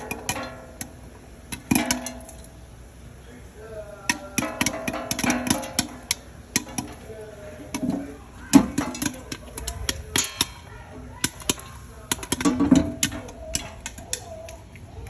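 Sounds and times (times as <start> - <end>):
popcorn kernels popping: 0.0 - 15.0.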